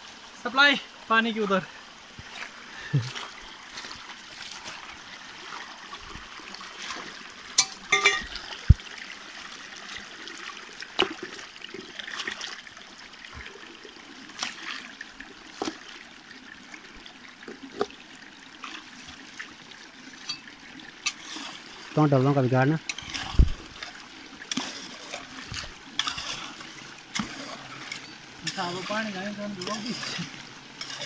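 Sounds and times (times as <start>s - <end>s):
water trickling over gravel: 0.0s - 31.0s.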